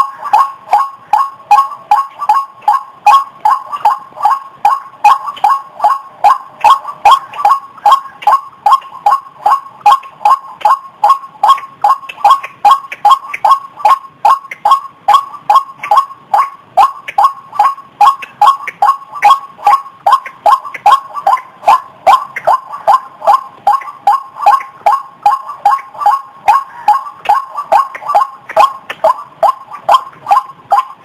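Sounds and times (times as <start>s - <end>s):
waterhen calling: 0.0s - 31.0s.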